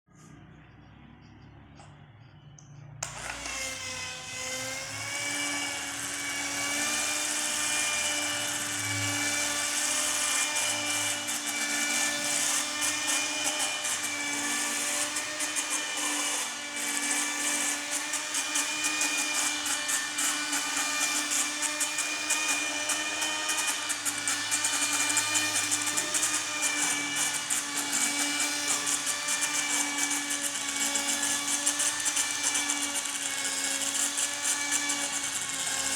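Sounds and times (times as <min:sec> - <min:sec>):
toy motor whining: 0:03.0 - 0:35.9.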